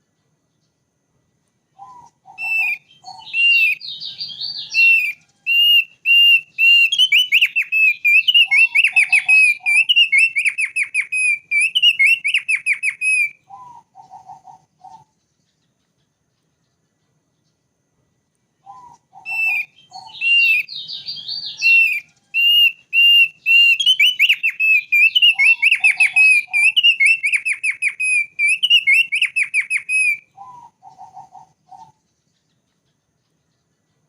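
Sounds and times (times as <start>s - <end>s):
bird song with whistles and trills: 1.7s - 17.8s, 18.6s - 34.0s.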